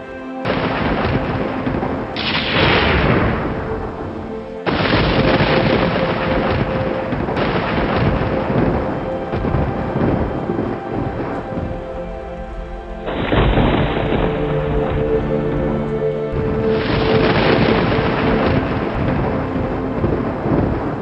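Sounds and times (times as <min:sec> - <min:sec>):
heavy rain: 0:00.0 - 0:21.0
soft music of steady tones: 0:00.0 - 0:21.0
thunder rumbling: 0:00.4 - 0:21.0.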